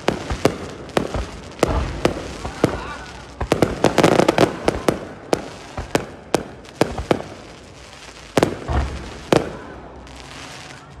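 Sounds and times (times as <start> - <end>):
heavy firework booms: 0.0 - 10.3
firework bangs and crackles: 0.0 - 11.0.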